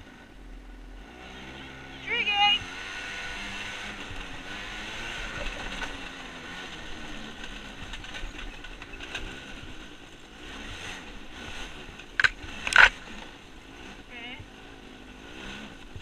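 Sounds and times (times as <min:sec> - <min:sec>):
dirt bike engine: 0:00.0 - 0:16.0.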